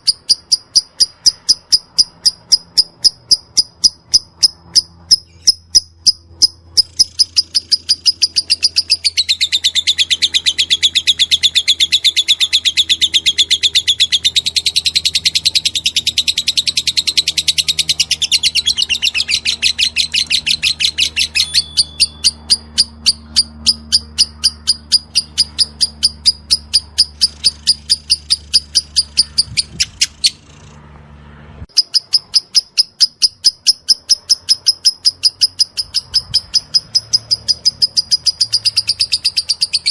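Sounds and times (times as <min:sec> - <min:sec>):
bird chattering: 0:00.0 - 0:30.8, 0:31.7 - 0:39.9.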